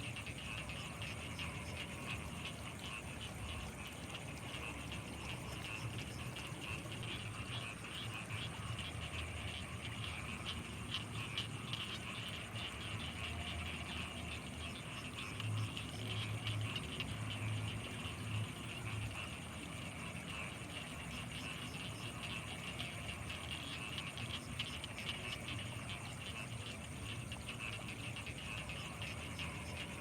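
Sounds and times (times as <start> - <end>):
frogs croaking: 0.0 - 30.0
insects chirring: 0.0 - 30.0.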